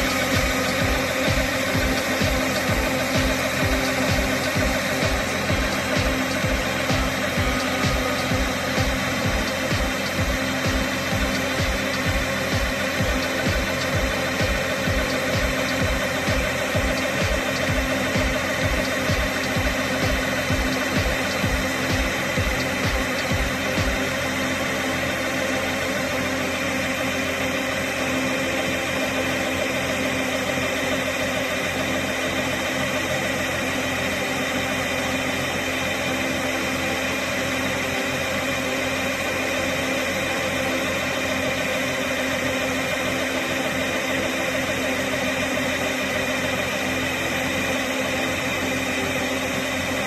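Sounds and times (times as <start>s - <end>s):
combine harvester droning: 0.0s - 50.0s.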